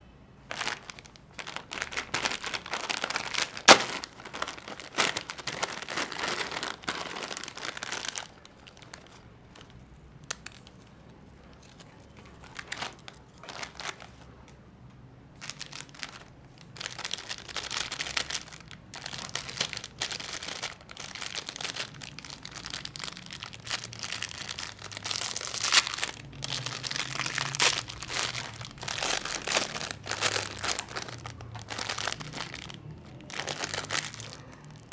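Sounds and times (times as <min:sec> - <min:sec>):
plastic wrappers crinkling: 0:00.5 - 0:14.5, 0:15.3 - 0:34.9.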